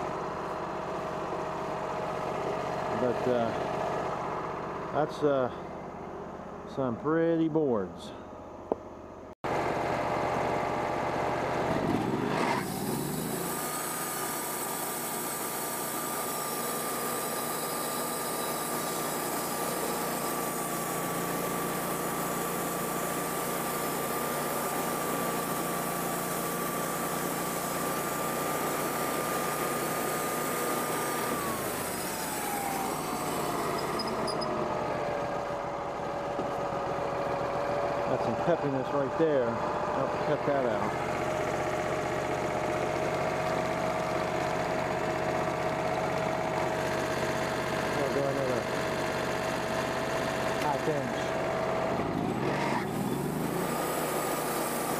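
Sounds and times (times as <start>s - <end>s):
bandsaw mill cutting log: 10.0s - 54.9s.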